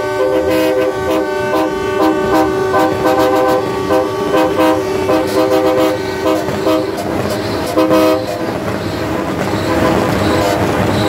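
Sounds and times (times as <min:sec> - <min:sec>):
truck horns honking: 0:00.0 - 0:11.0.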